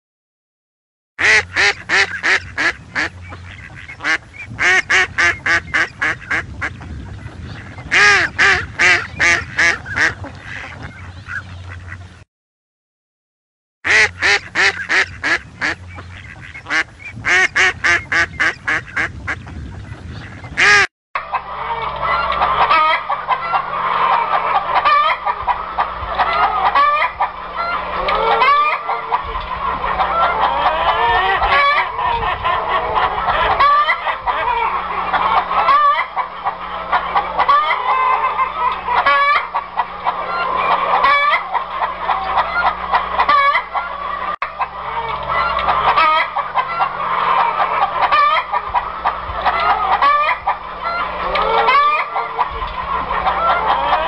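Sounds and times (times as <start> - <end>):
chickens clucking: 1.2 - 12.2, 13.9 - 54.0
ducks calling: 1.2 - 12.2, 13.9 - 54.0.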